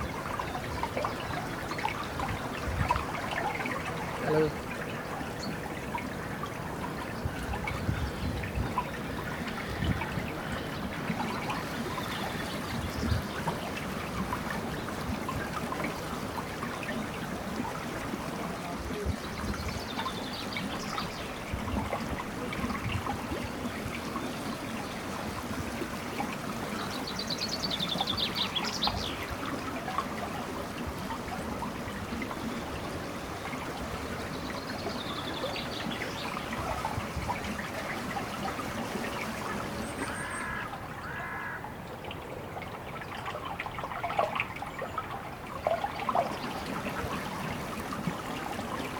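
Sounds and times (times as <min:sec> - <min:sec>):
water trickling and splashing: 0:00.0 - 0:48.9.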